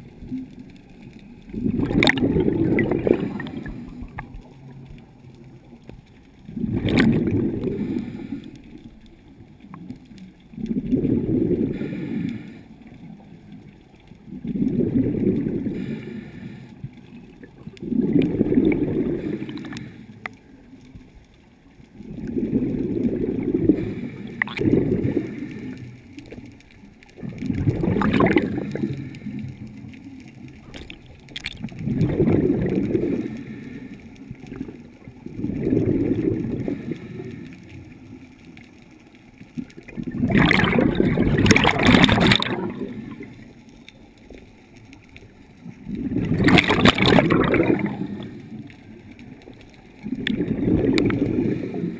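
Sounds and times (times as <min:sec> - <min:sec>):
underwater regulator bubbling: 0:01.2 - 0:05.7, 0:06.4 - 0:13.6, 0:14.2 - 0:20.4, 0:21.9 - 0:26.5, 0:27.1 - 0:33.7, 0:34.3 - 0:37.6, 0:39.5 - 0:43.6, 0:45.6 - 0:51.9.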